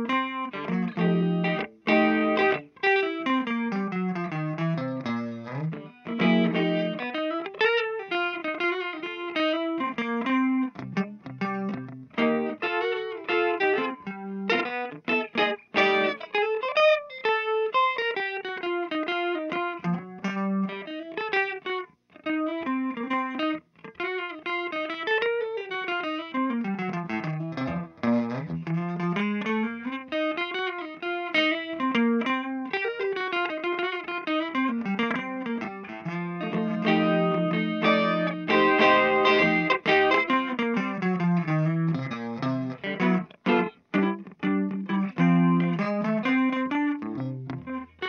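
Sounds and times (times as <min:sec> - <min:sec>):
guitar instrumental music: 0:00.0 - 0:48.0.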